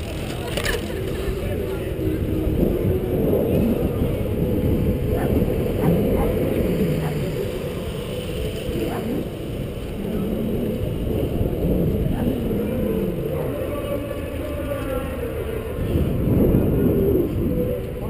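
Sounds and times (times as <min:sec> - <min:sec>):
road rumble: 0:00.0 - 0:18.0
wind buffeting microphone: 0:00.0 - 0:18.0.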